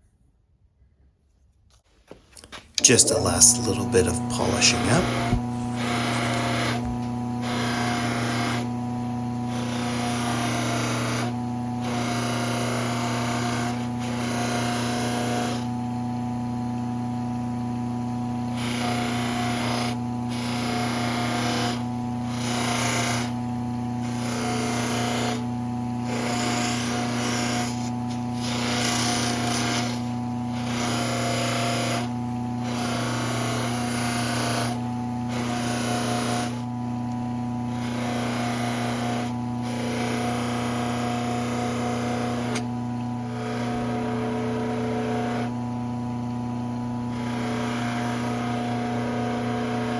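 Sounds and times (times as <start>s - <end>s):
polishing wheel motor hum: 4.4s - 49.9s.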